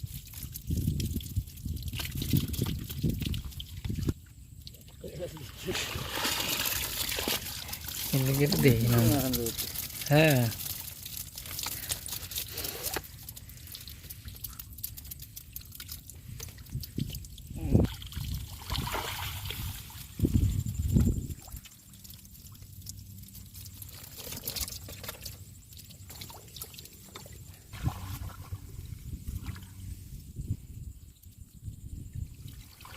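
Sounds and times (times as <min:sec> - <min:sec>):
water splashes: 0:00.0 - 0:29.9, 0:32.4 - 0:32.9
shallow water sloshing and trickling: 0:00.0 - 0:32.9.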